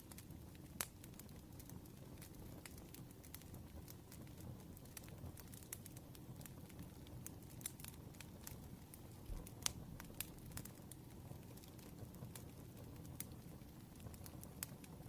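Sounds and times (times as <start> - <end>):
fire pops and snaps: 0.0 - 15.0
wood fire crackling: 0.0 - 15.0.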